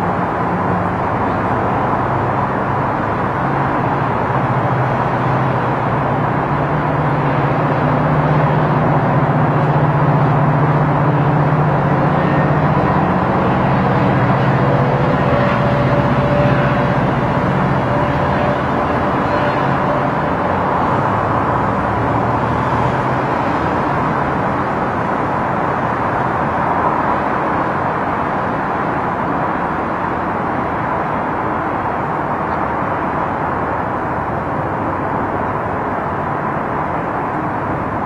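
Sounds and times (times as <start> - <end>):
train coaches rolling on rails: 0.0 - 36.9
diesel locomotive engine drone: 0.0 - 38.0.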